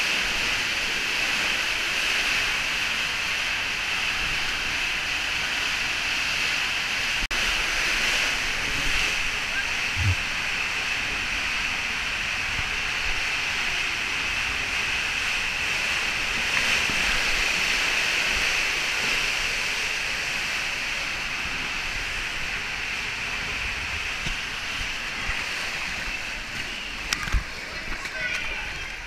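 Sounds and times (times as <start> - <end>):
water rushing through slide tube: 0.0 - 29.0.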